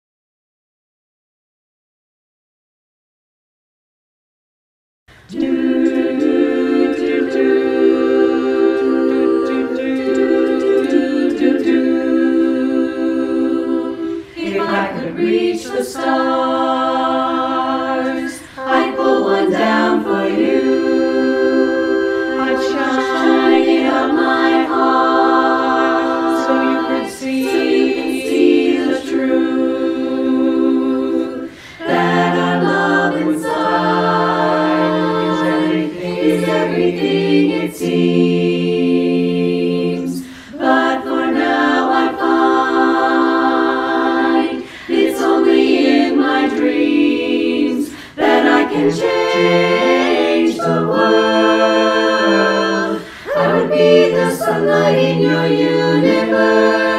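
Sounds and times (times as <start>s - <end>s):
women's chorus singing a cappella: 5.1s - 56.9s.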